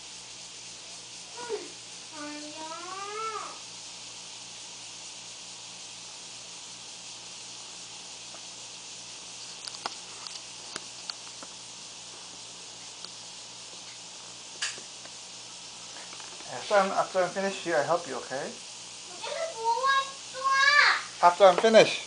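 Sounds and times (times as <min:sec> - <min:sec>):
steady recorder hiss: 0:00.0 - 0:22.0.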